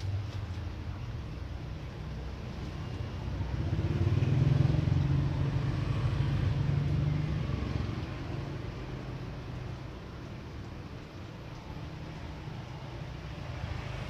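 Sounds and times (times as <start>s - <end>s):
vehicle engine passing by: 2.3s - 14.0s.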